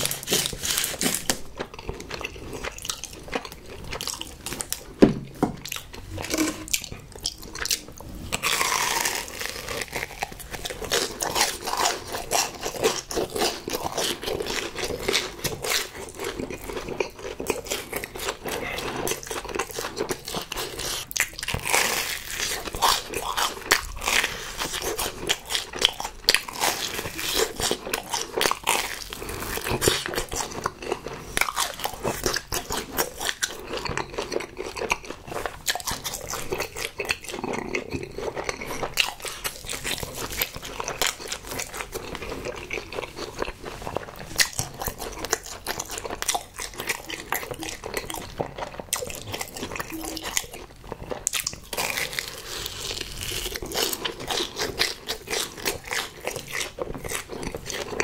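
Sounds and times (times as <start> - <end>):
crunchy biting and chewing: 0.0 - 58.0.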